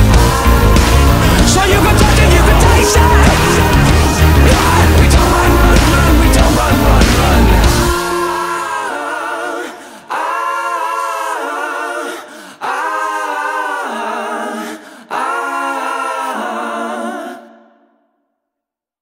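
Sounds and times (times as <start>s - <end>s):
a cappella voices singing chords: 0.0s - 18.1s.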